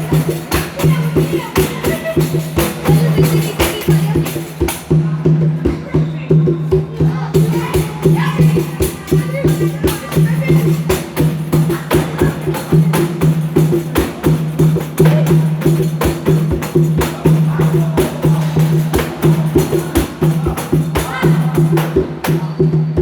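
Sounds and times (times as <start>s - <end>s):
hand drum played fast: 0.0s - 23.0s.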